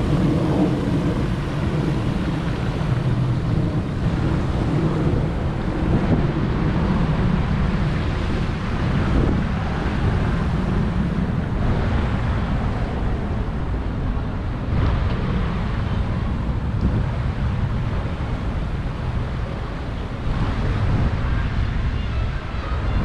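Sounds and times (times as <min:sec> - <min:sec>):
street traffic: 0:00.0 - 0:23.0
wind buffeting microphone: 0:00.0 - 0:23.0.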